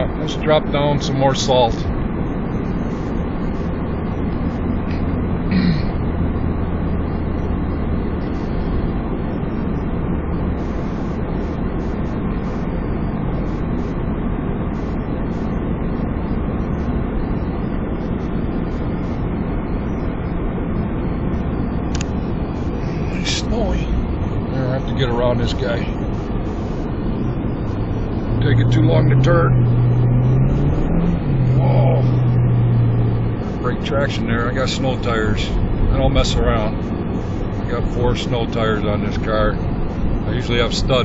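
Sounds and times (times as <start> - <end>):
car engine: 0.0 - 41.0
low drone: 0.0 - 41.0.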